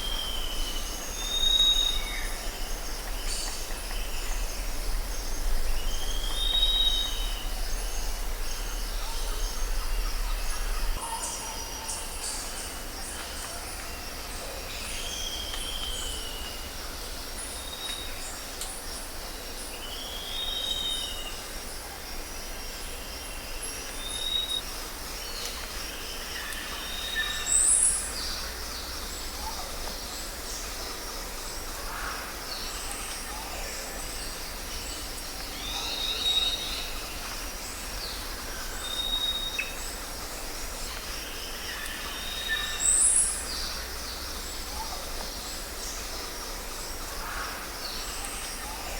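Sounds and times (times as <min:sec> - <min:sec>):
insects chirring: 0:00.0 - 0:48.9.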